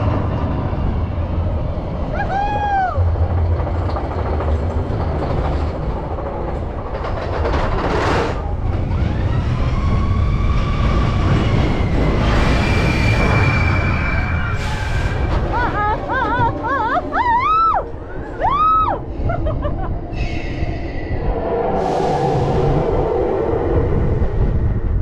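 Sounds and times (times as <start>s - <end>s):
roller coaster wheels rumbling: 0.0s - 25.0s
rush of noise: 0.0s - 25.0s.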